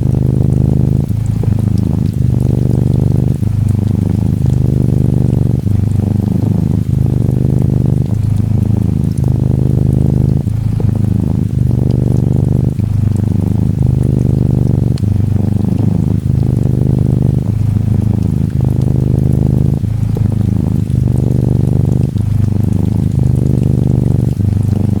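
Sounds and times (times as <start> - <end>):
kitten purring: 0.0 - 25.0
light rain ticks: 0.0 - 25.0.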